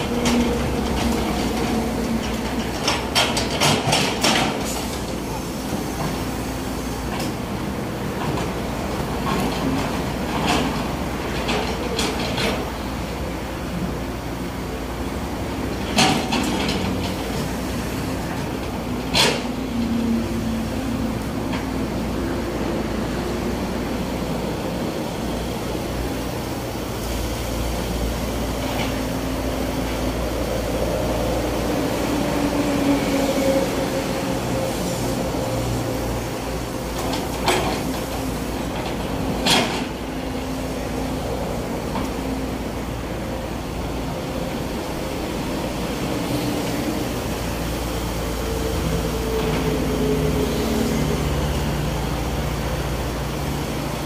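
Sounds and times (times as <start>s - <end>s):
excavator diesel engine running: 0.0s - 54.0s
passing expressway traffic: 0.0s - 54.0s.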